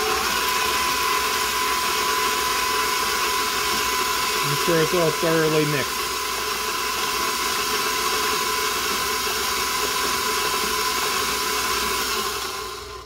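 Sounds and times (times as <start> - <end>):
batter mixing hiss: 0.0 - 13.0
stand mixer motor whine: 0.0 - 13.0.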